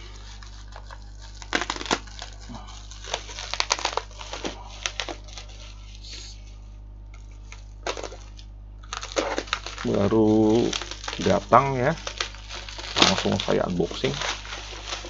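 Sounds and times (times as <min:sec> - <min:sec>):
bubble wrap crinkling and crackling: 0:00.0 - 0:15.0.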